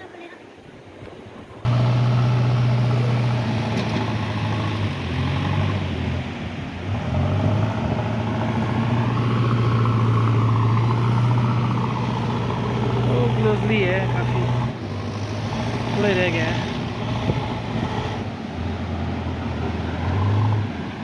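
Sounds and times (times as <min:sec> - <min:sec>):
vehicle engine running: 0:01.7 - 0:18.5.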